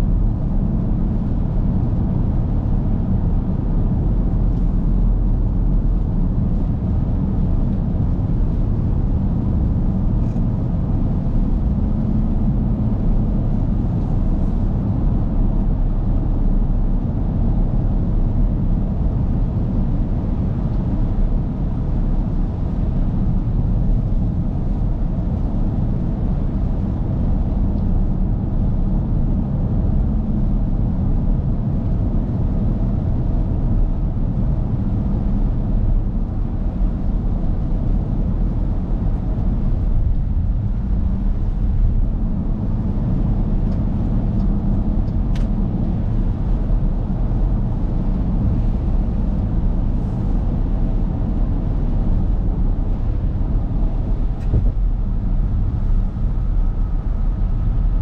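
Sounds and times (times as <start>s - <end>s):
car engine drone in cabin: 0.0s - 58.0s.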